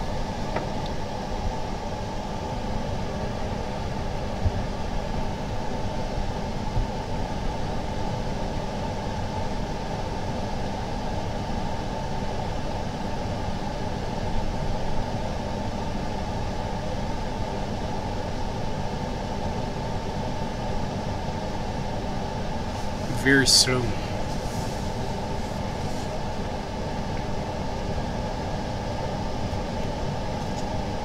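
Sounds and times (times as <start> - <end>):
machine or fan humming: 0.0 - 31.0.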